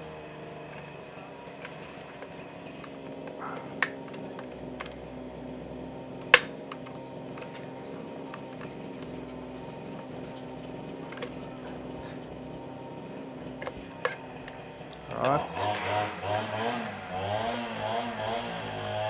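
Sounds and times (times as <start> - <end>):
low hum: 0.9 - 19.0.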